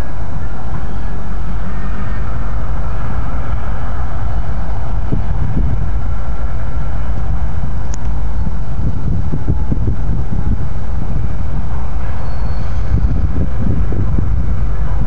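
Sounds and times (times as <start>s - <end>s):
distant diesel locomotives running: 0.0s - 15.0s
wind buffeting microphone: 0.0s - 15.0s.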